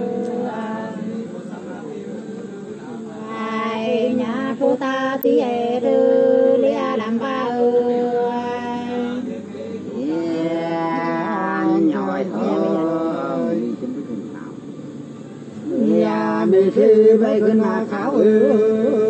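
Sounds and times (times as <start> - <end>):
women singing unaccompanied: 0.0 - 13.8, 15.6 - 19.0.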